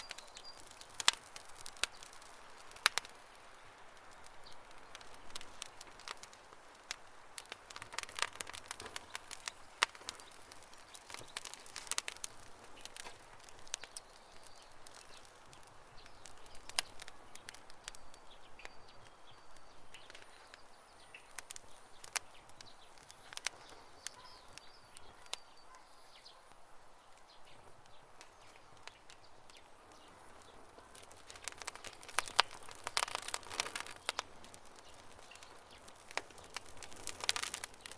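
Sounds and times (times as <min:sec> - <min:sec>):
campfire crackling and popping: 0:00.0 - 0:37.9
faint fire hiss: 0:00.0 - 0:37.9.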